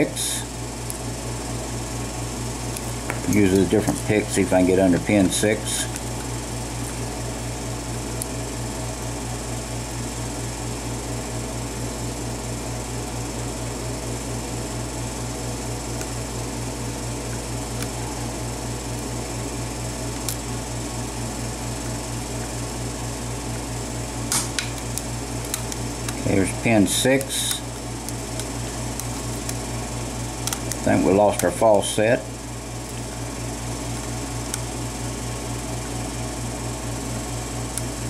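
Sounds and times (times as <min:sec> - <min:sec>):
motor hum: 0:00.0 - 0:38.0.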